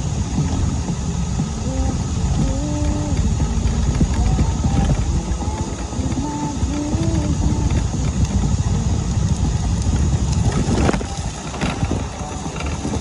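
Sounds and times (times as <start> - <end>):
wheels rumbling on asphalt: 0.0 - 13.0.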